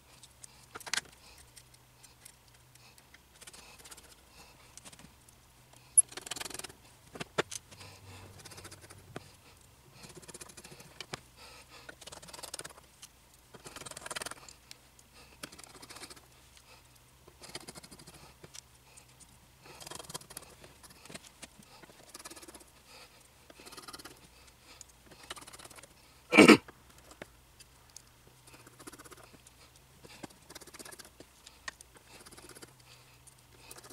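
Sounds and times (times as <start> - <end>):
small screws clicking and rustling: 0.0 - 26.1, 26.7 - 33.9.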